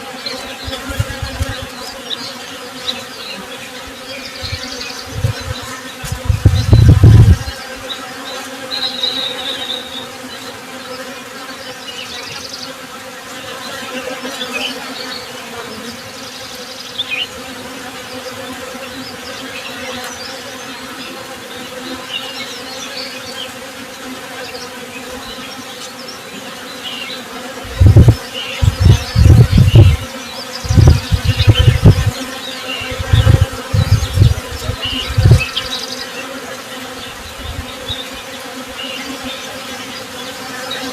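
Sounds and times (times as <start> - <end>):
honey bees buzzing: 0.0 - 40.9.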